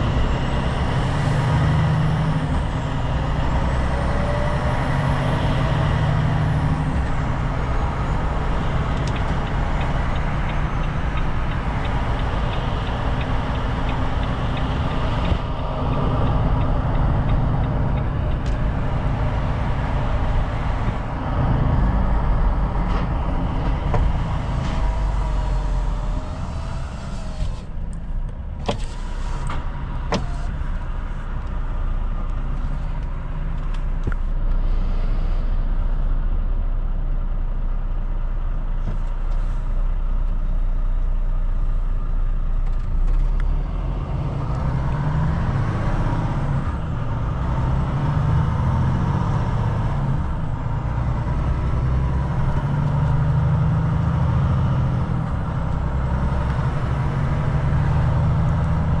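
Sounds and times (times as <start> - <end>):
diesel truck engine running: 0.0 - 59.0
road noise: 0.0 - 59.0.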